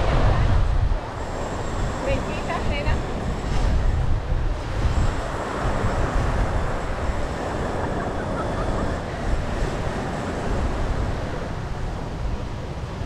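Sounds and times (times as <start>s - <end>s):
faint voices: 0.0s - 13.0s
gentle surf washing: 0.0s - 13.0s
wind rumbling on microphone: 0.0s - 13.0s.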